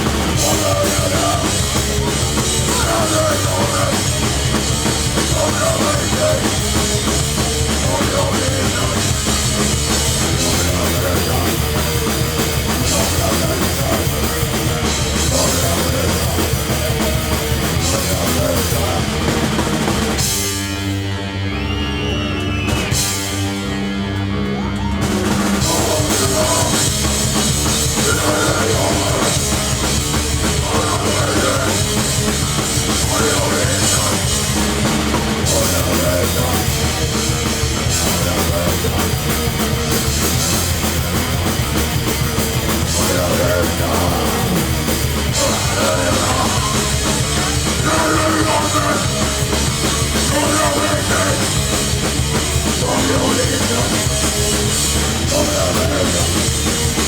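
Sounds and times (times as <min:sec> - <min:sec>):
pounding drum kit: 0:00.0 - 0:21.5, 0:22.3 - 0:57.0
distorted guitars: 0:00.0 - 0:57.0
punk band playing: 0:00.0 - 0:57.0.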